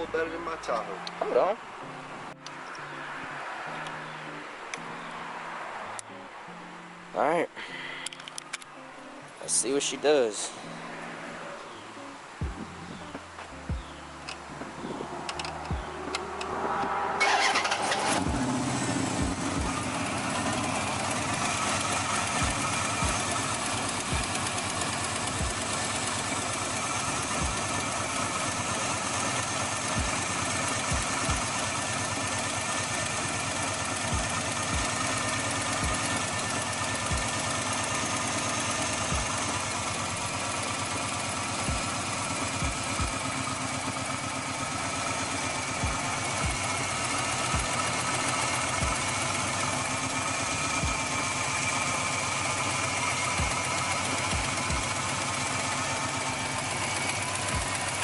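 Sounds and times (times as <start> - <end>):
car engine cranking and idling: 0.0 - 1.5, 12.4 - 58.0.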